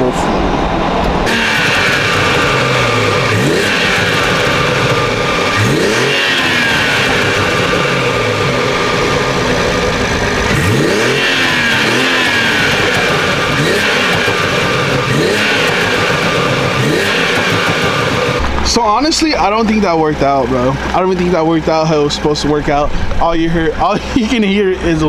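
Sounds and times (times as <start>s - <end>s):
car engine accelerating: 0.0s - 25.0s
exhaust pops: 1.0s - 25.0s.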